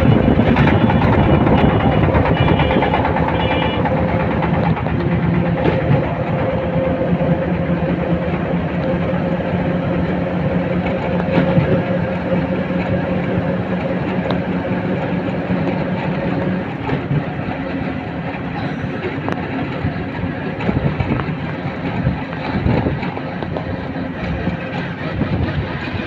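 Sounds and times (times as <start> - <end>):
road noise: 0.0 - 26.0
vehicle engine hum: 0.0 - 26.0.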